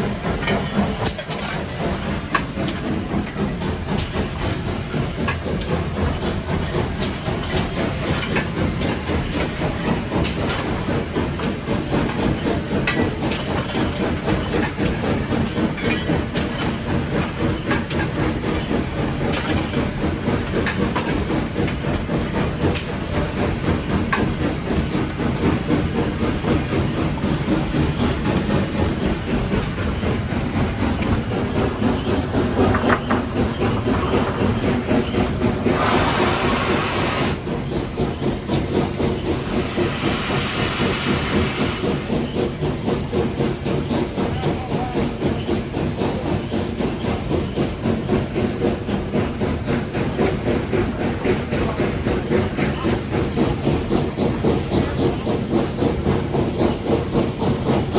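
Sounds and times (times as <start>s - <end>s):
steam hissing: 0.0s - 57.9s
wheels rumbling on rails: 0.0s - 57.9s.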